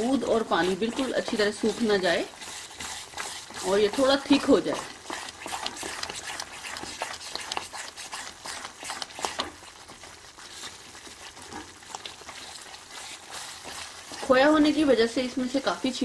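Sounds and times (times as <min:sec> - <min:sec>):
bubbling mixture popping and spitting: 0:00.0 - 0:16.0
wooden spatula scraping a pan: 0:00.0 - 0:16.0.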